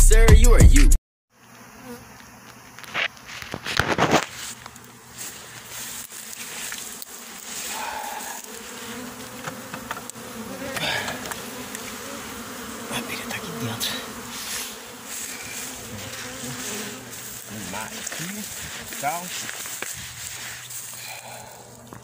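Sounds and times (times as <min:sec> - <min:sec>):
bee swarm buzzing: 0:01.3 - 0:22.0
single bees flying past: 0:01.4 - 0:21.8.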